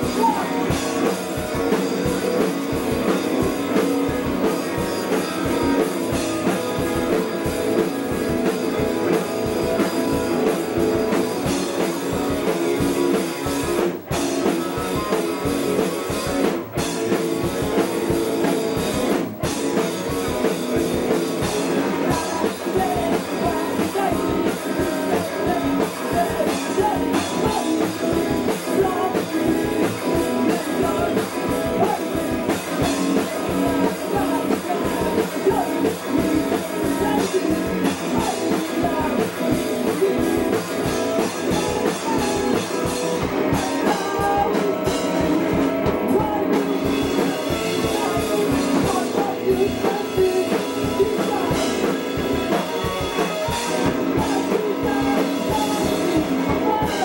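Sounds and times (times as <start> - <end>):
man singing: 0.0 - 13.3, 20.4 - 57.0
drum kit: 0.0 - 57.0
electric guitar: 0.0 - 57.0.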